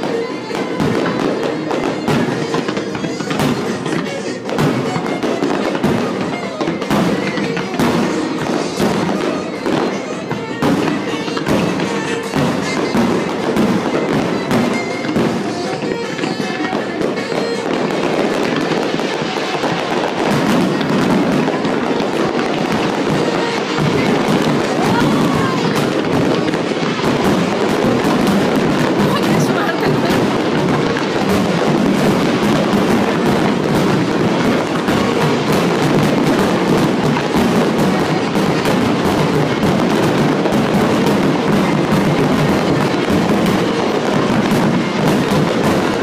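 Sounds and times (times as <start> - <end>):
fireworks bursting and crackling: 0.0 - 46.0
music playing: 0.0 - 46.0.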